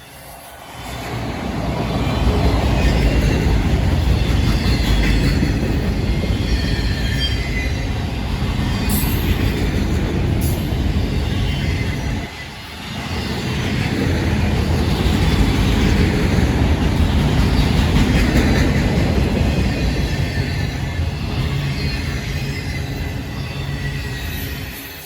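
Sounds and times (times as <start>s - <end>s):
freight train rumbling past: 0.0s - 25.0s
steel wheels squealing on rails: 0.0s - 25.0s.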